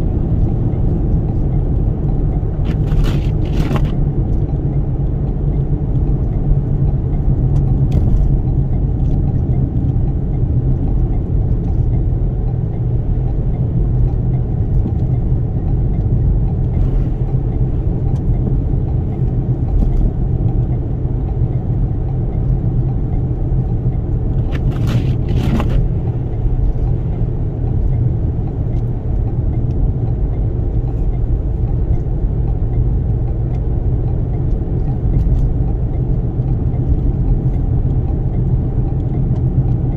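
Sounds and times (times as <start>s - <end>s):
road and wind noise rumble: 0.0s - 39.9s.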